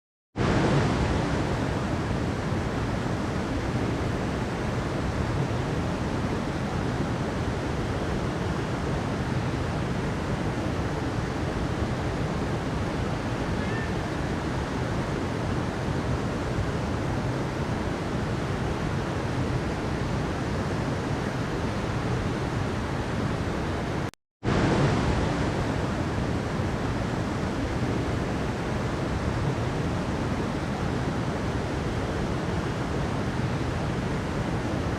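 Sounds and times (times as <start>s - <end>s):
water rushing over waterfall: 0.4s - 34.9s.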